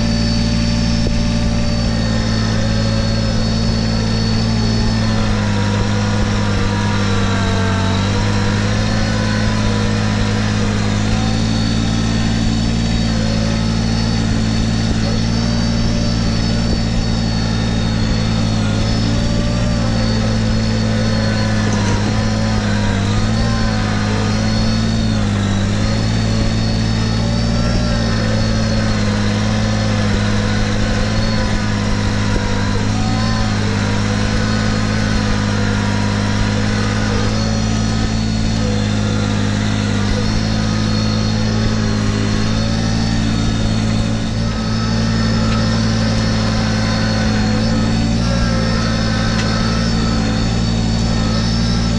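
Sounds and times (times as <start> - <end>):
steady high whine: 0.0 - 51.9
tractor diesel engine running: 0.0 - 51.9.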